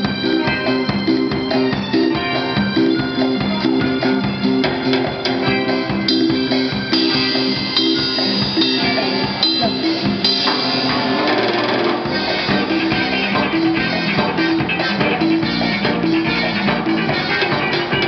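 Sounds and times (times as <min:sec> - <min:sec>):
live pop band playing: 0:00.0 - 0:18.0.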